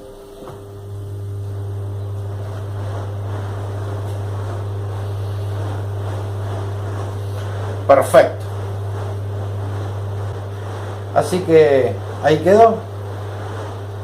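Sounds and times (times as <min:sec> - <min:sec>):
air rushing from blower wheel: 0:00.0 - 0:14.0
electric motor hum: 0:00.0 - 0:14.0.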